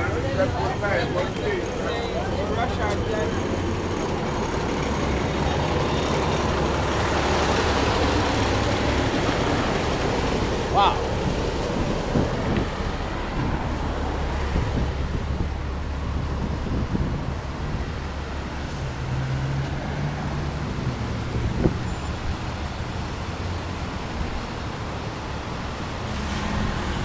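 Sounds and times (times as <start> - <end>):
traffic engine rumble: 0.0 - 27.0.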